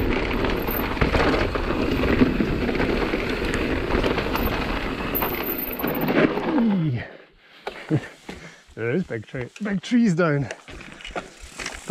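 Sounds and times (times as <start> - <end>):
bike rattling over roots: 0.0 - 7.1, 7.7 - 11.9
bike tyres rushing on dirt: 0.0 - 11.9.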